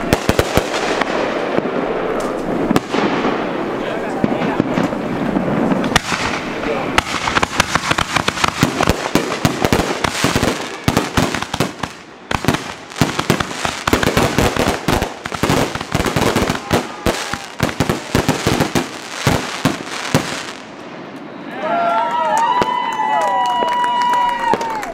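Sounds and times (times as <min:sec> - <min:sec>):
fireworks bangs and crackling: 0:00.0 - 0:21.5, 0:22.4 - 0:24.8.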